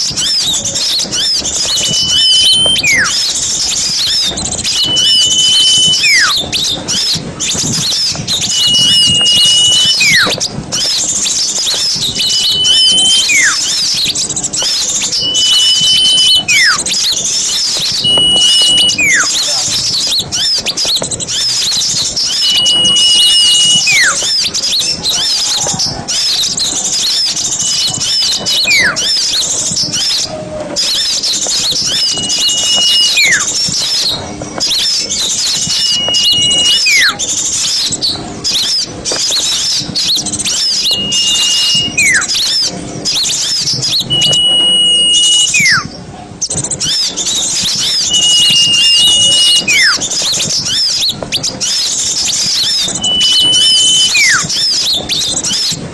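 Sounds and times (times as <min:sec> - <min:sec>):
small birds chattering: 0:00.0 - 0:55.9
downward sliding whistle: 0:00.1 - 0:37.9, 0:38.6 - 0:45.9, 0:46.8 - 0:55.7.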